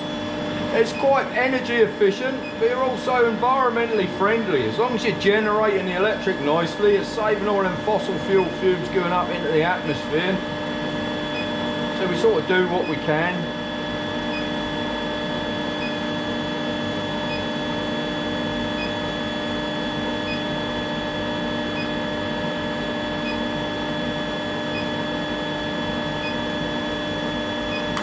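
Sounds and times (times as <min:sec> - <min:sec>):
induction heater humming and whining: 0:00.0 - 0:28.0.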